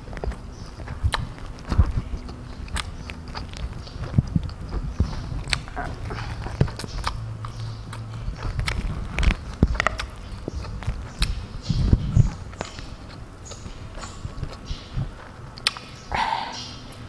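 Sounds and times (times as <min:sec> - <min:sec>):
wet chewing clicks: 0:00.0 - 0:17.0.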